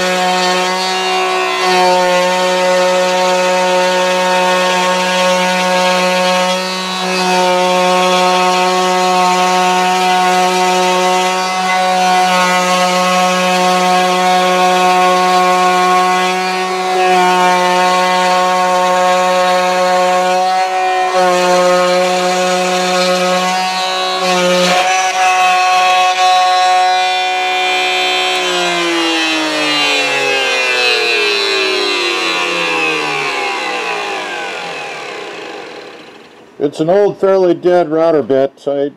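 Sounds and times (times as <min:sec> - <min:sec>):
electric router whining: 0:00.0 - 0:37.0.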